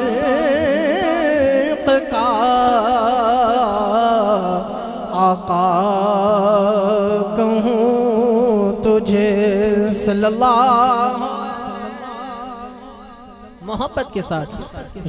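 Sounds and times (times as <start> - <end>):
man singing through loudspeaker: 0.0 - 15.0.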